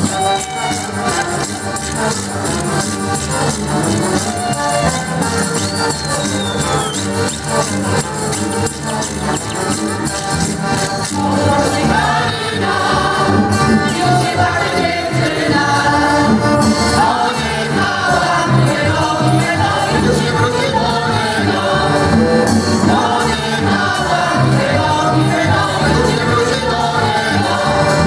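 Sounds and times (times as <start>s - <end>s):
accordion: 0.0s - 28.0s
choir singing folk song: 0.0s - 28.0s.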